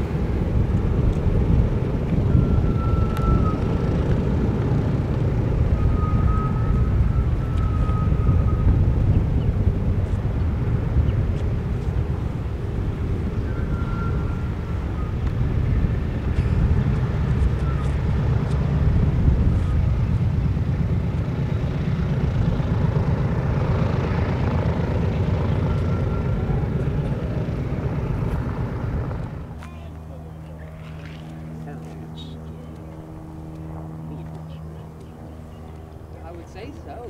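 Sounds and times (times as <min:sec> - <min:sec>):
radial engines rumbling: 0:00.0 - 0:37.0.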